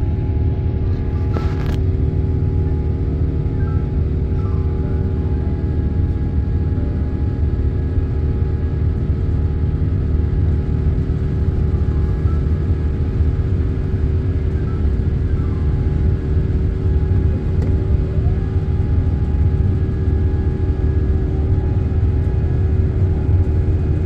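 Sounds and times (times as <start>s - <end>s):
airliner engine rumble: 0.0s - 24.0s
steady humming tones: 0.0s - 24.0s.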